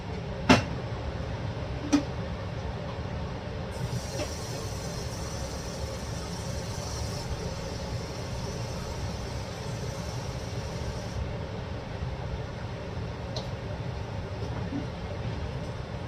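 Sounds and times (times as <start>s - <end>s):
gas burner low rumble: 0.0s - 16.0s.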